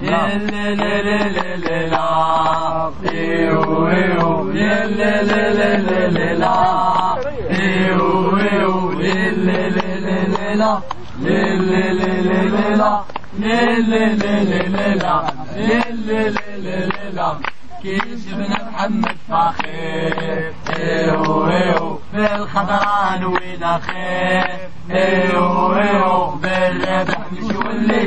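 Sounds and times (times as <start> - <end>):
crowd chanting a wordless melody: 0.0 - 28.0.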